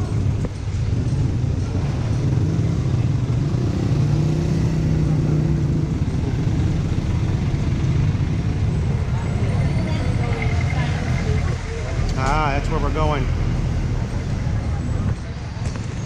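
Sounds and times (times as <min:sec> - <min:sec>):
busy street traffic: 0:00.0 - 0:16.0
vehicle engine humming: 0:00.0 - 0:16.0.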